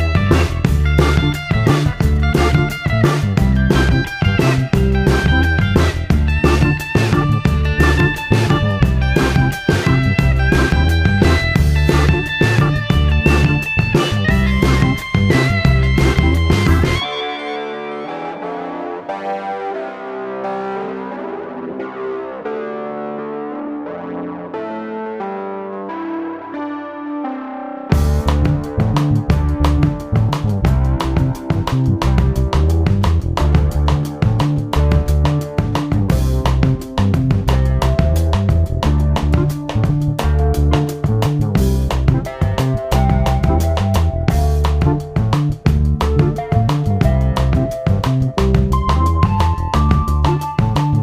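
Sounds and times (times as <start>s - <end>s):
music with guitar and drums: 0.0s - 26.0s, 27.8s - 51.0s
synthesizer and keyboard chords: 0.0s - 51.0s.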